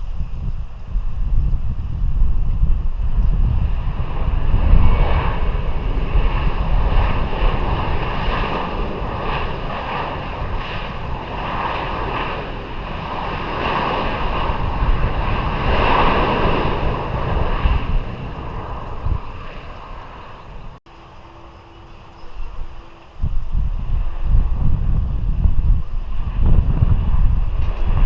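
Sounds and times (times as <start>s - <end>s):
wind buffeting microphone: 0.0s - 20.8s, 21.4s - 28.0s
jet engines rumbling: 0.0s - 28.0s.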